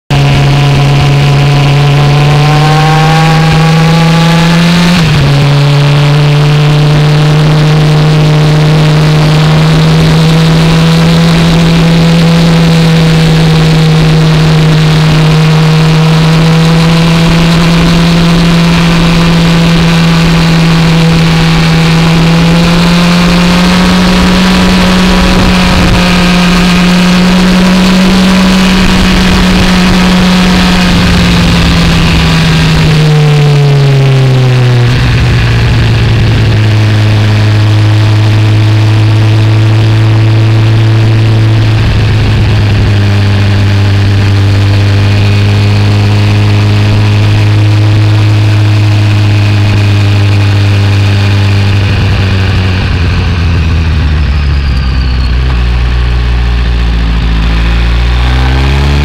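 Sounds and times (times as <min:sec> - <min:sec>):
motorcycle engine pulling hard: 0:00.1 - 0:59.0
rushing noise: 0:00.1 - 0:59.0.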